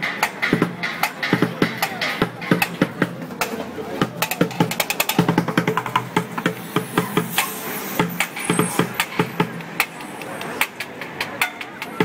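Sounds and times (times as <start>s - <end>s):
sharp stick clacks: 0.0s - 12.0s.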